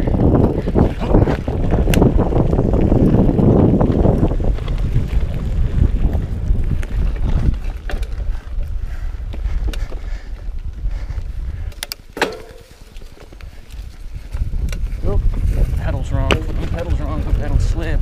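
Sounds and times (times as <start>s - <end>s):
bike clicks and rattles: 0.0s - 18.0s
bike tyre rumble on dirt: 0.0s - 18.0s
wind buffeting microphone: 0.0s - 18.0s.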